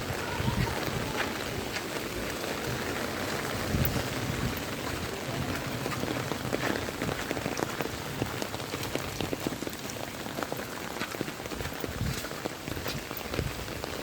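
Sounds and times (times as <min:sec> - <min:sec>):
pouring rain: 0:00.0 - 0:14.0
raindrops ticking: 0:00.0 - 0:14.0.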